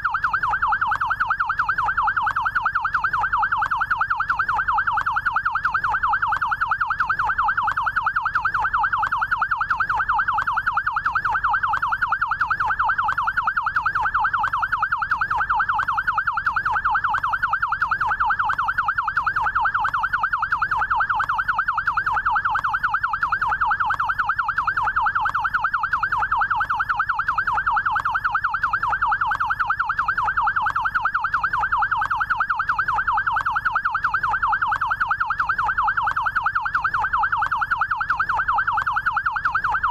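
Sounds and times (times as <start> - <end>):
electronic yelp siren: 0.0 - 39.9.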